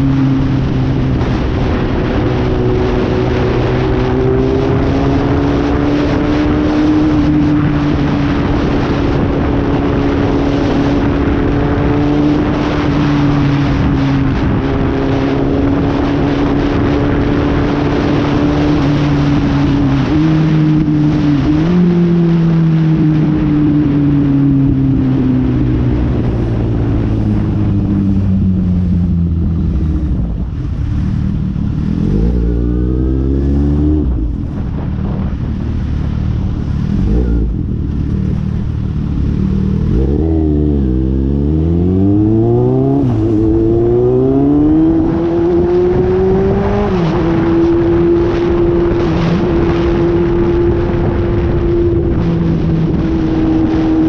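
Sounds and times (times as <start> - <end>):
motorcycle engine revving: 0.0 - 54.0
wind noise on microphone: 0.0 - 54.0.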